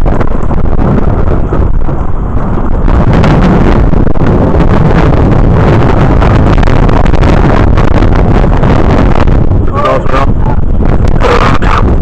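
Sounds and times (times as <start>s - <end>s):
loud thunderstorm roar: 0.0s - 12.0s.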